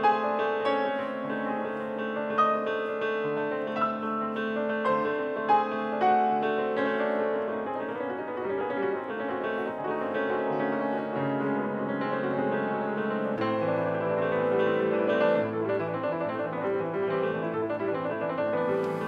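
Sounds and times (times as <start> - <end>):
grand piano playing: 0.0 - 19.0.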